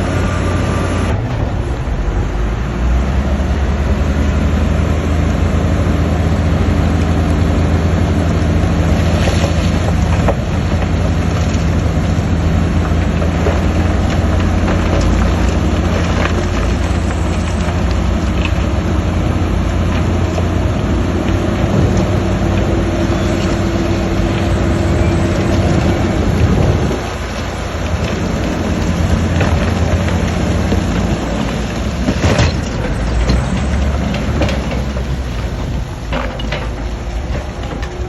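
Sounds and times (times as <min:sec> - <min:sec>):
diesel engine running under load: 0:00.0 - 0:38.0.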